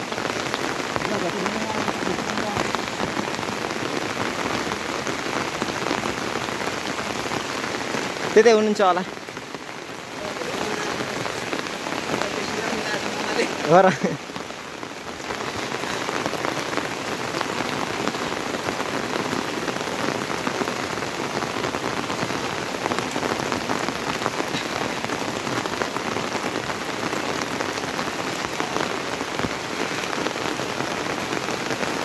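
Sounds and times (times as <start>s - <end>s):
rain patter: 0.0s - 32.0s.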